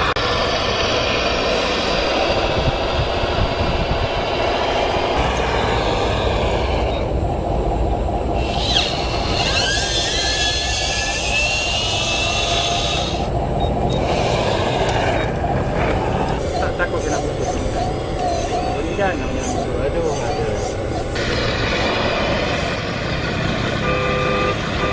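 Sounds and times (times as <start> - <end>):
short rising whines: 0.0 - 24.9
small motors and gearing: 0.0 - 24.9.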